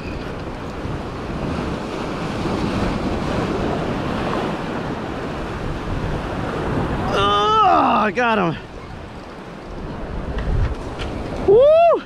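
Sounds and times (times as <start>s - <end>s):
waves washing against rocks: 0.0s - 11.6s
wind buffeting microphone: 0.0s - 12.0s.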